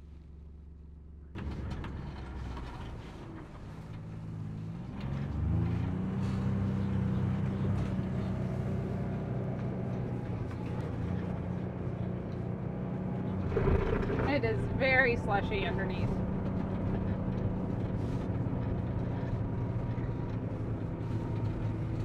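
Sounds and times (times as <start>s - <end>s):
utility vehicle engine revving: 1.4s - 22.0s.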